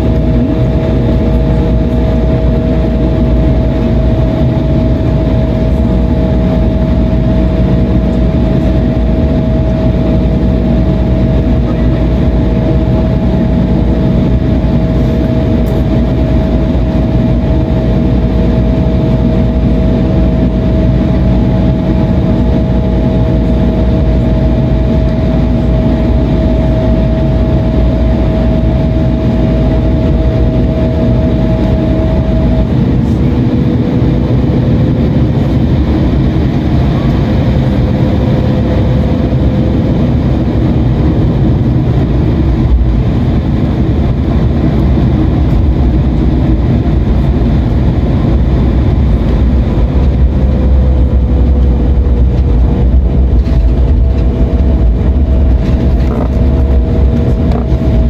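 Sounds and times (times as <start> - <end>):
jet engines rumbling with whine: 0.0 - 58.0.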